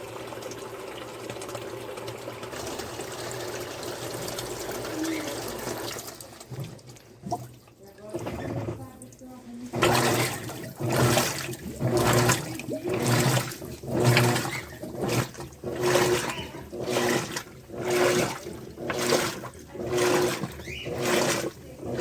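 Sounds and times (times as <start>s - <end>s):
washing machine motor hum: 0.0s - 22.0s
washing machine water sloshing: 0.0s - 22.0s.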